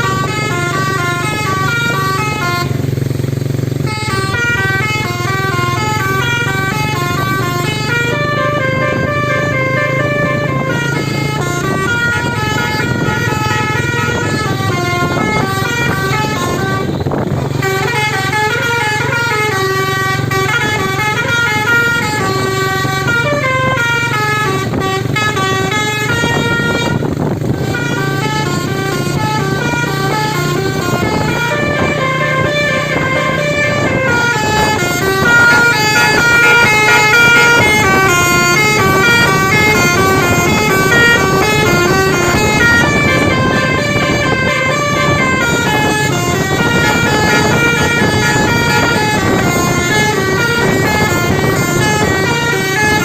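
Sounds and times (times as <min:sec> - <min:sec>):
musical bus horn melody: 0:00.0 - 0:53.0.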